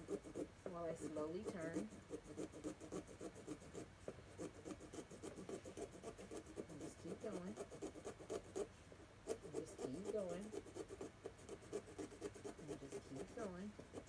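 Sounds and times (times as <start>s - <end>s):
small saw rasping through pumpkin: 0.0s - 14.0s.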